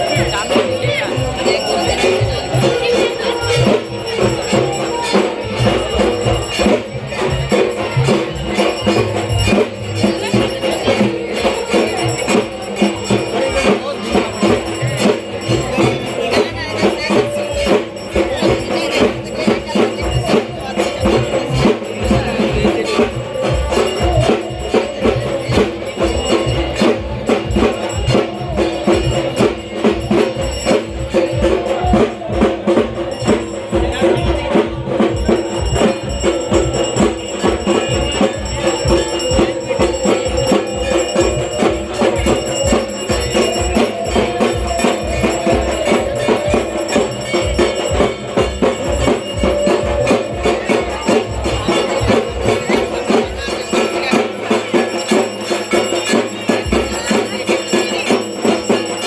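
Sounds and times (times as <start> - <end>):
fast drum beat: 0.0 - 59.0.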